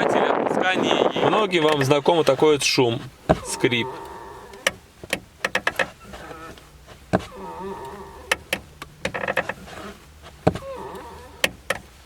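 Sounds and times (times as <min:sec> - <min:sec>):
clutch pedal clicking and squeaking: 0:01.6 - 0:12.0.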